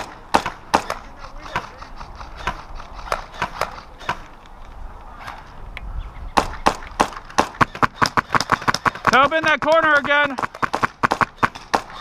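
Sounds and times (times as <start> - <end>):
airsoft gun shots: 0.0 - 4.3, 6.4 - 12.0.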